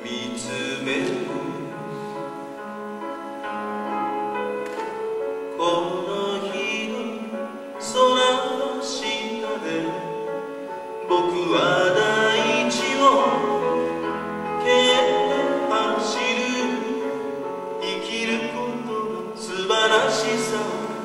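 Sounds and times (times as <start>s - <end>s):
man singing long held notes: 0.0s - 2.2s, 5.5s - 21.0s
piano playing slow chords: 0.0s - 21.0s.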